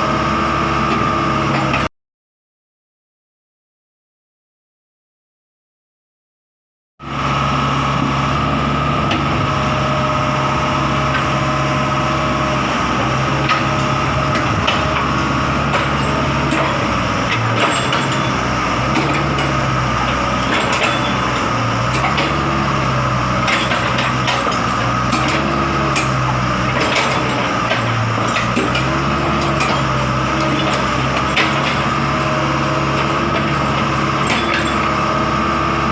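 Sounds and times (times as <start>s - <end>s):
excavator diesel engine running: 0.0s - 1.9s, 7.0s - 35.9s
high hydraulic whine: 7.0s - 35.8s.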